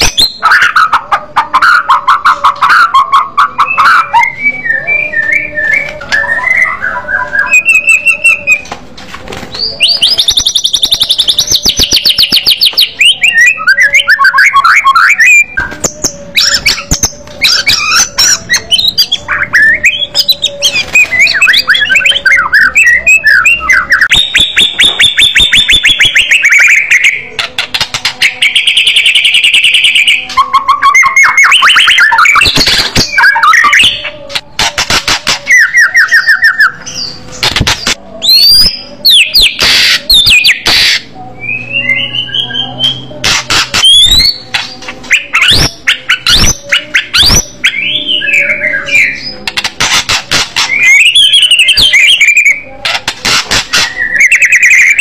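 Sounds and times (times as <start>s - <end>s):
bird singing with trills: 0.0s - 8.8s, 9.5s - 55.0s.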